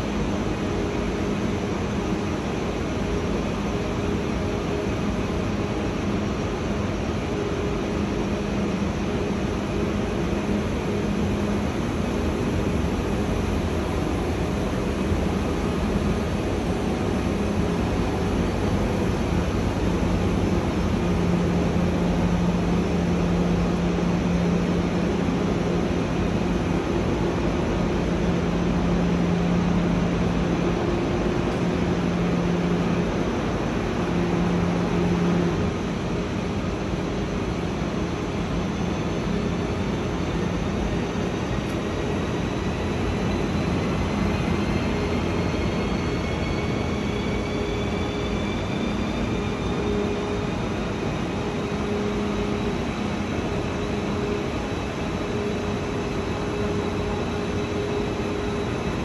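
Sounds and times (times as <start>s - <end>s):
machine hum: 0.0s - 59.0s
train rumble: 0.0s - 59.0s.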